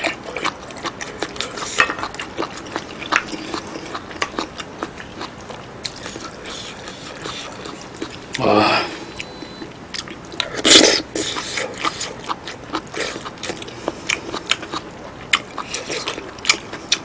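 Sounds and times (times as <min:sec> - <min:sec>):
chewing and biting food: 0:00.0 - 0:08.4, 0:09.1 - 0:17.0.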